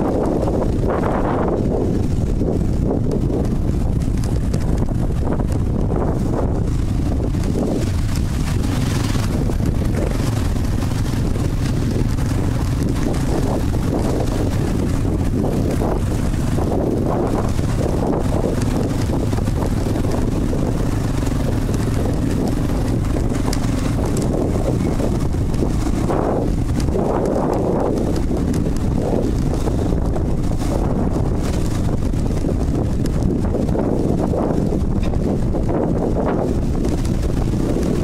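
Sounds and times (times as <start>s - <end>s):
off-road vehicle engine running: 0.0s - 38.0s
wind noise on microphone: 0.0s - 38.0s.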